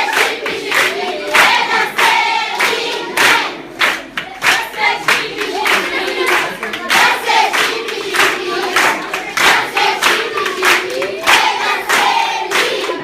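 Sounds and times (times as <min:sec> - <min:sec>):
group singing in chorus: 0:00.0 - 0:13.0
rhythmic hand clapping: 0:00.0 - 0:13.0.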